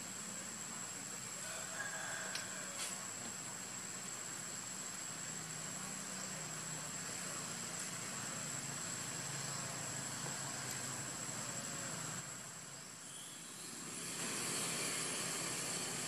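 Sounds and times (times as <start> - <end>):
even background hiss: 0.0 - 16.0
high thin insect whine: 0.0 - 16.0.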